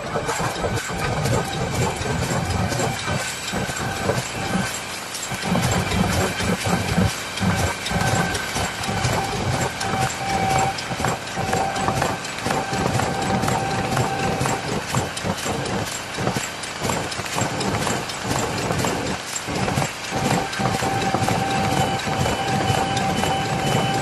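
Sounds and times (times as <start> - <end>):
machine clattering: 0.0 - 24.0
thin steady whine: 0.0 - 24.0.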